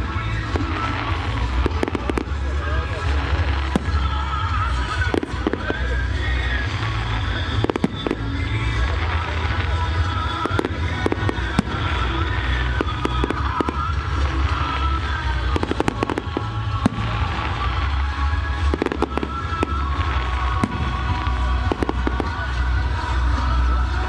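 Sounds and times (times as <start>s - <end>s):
fireworks bangs and crackles: 0.0s - 24.0s
music from distant loudspeakers: 0.0s - 24.0s.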